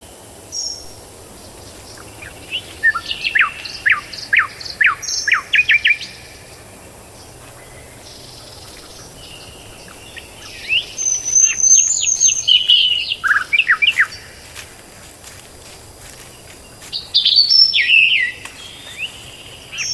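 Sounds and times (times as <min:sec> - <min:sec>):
songbird singing: 0:00.5 - 0:19.9.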